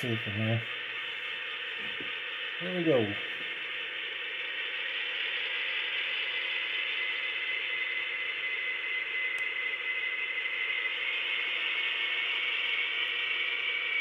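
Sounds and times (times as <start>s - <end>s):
model locomotive diesel engine sound: 0.0s - 14.0s.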